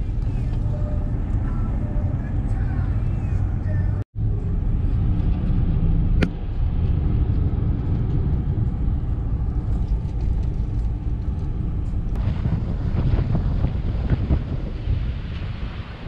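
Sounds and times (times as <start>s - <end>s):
vehicle cab rumble: 0.0s - 14.4s.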